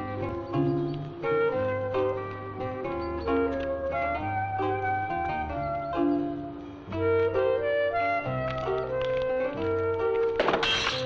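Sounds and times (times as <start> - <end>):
instrumental film music: 0.0 - 11.0.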